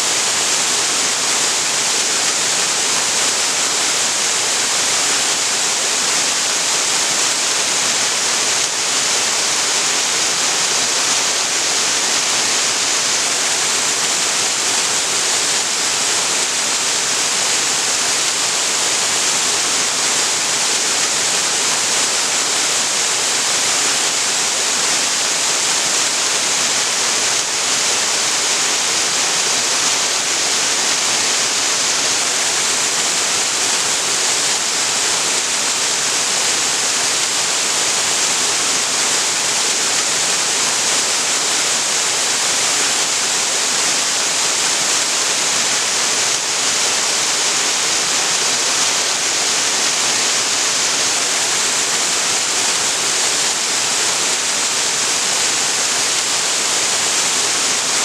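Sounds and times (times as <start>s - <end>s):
waterfall pouring into pool: 0.1s - 58.0s.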